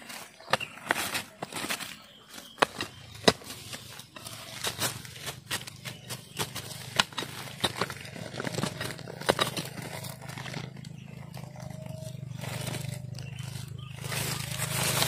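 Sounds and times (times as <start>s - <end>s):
twigs crackling underfoot: 0.0s - 15.0s.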